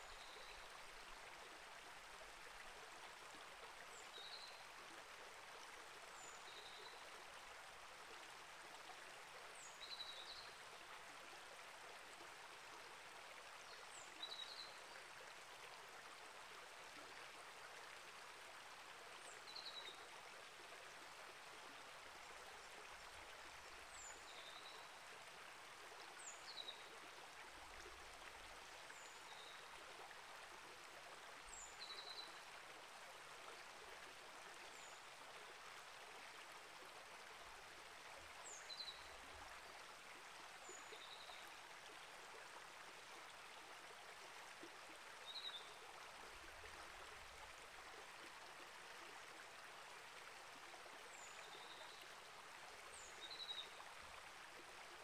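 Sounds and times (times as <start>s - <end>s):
creek flowing: 0.0s - 55.0s.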